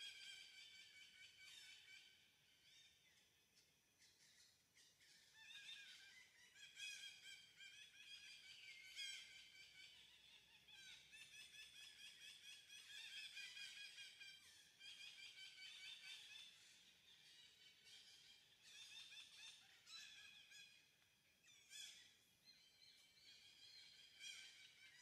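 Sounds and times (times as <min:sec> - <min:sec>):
birds chirping: 0:04.0 - 0:25.0.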